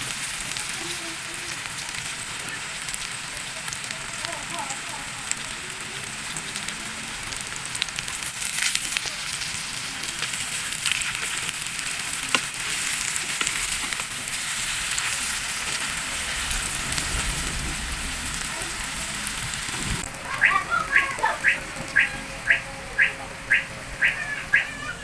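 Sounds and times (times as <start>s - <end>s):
crackles and pops of frying: 0.0s - 25.0s
food sizzling in a pan: 0.0s - 25.0s.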